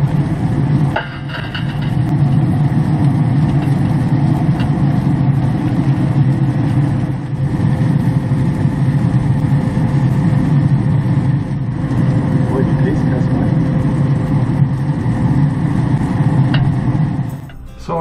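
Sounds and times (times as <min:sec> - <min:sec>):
grill fan drone: 0:00.0 - 0:18.0.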